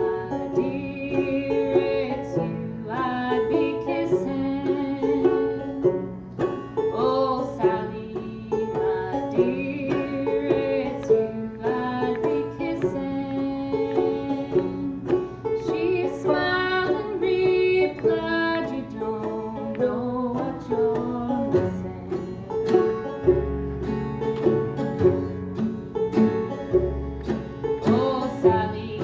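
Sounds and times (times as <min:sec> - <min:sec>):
acoustic folk band playing: 0:00.0 - 0:29.0.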